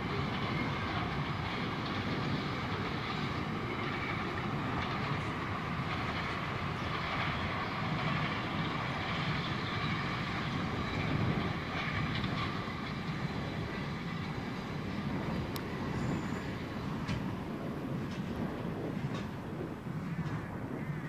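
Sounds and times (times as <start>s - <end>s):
freight train wheels rumbling on track: 0.0s - 21.0s.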